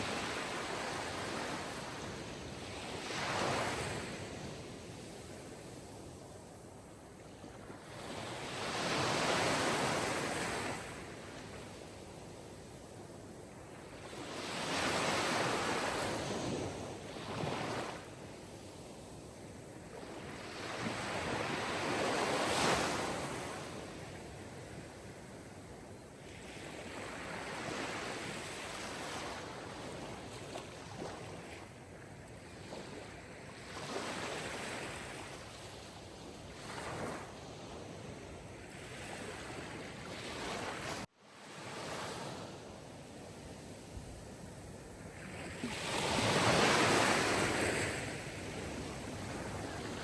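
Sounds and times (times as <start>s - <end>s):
wind: 0.0s - 50.0s.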